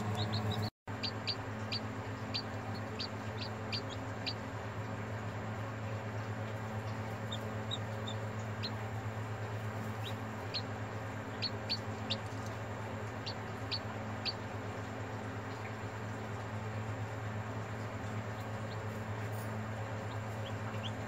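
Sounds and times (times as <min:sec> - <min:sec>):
chick peeping: 0:00.0 - 0:04.6, 0:06.4 - 0:16.3, 0:17.7 - 0:21.0
low hum: 0:00.0 - 0:21.0.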